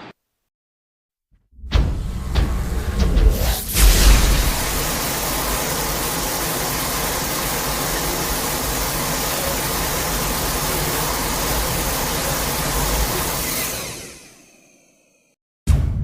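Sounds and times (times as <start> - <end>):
loud rushing hiss: 2.1 - 15.1.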